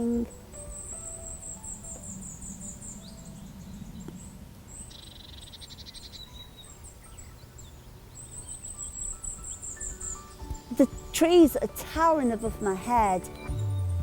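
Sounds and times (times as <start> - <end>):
bird trill: 0.0 - 14.0
birds chirping: 0.0 - 14.0.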